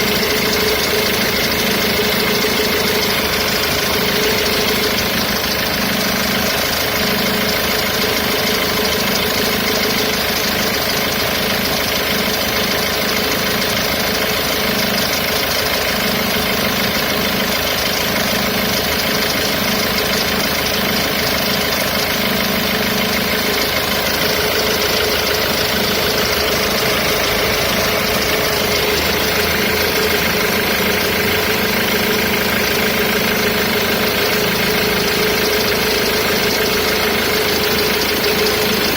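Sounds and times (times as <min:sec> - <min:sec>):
diesel engine idling: 0:00.0 - 0:38.9
strange extra engine noise: 0:00.0 - 0:38.9.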